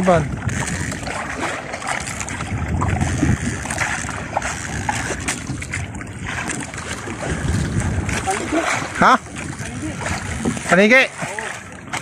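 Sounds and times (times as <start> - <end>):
water splashing against boat hull: 0.0 - 12.0
wind buffeting microphone: 0.0 - 12.0
steady low rumble: 0.2 - 10.7.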